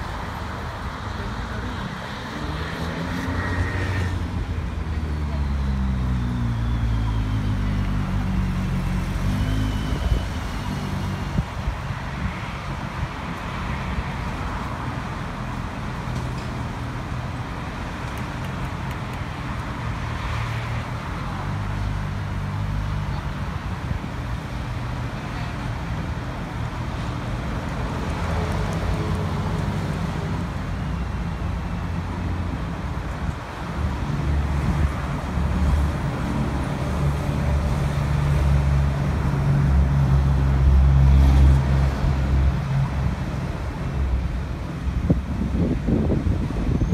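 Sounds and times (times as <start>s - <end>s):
road traffic passing: 0.0s - 46.9s.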